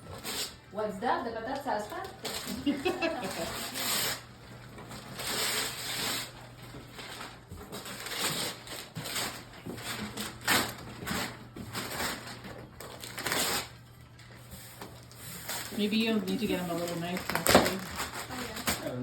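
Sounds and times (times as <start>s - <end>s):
gift wrapping tearing and crumpling: 0.0s - 0.7s, 1.8s - 19.0s.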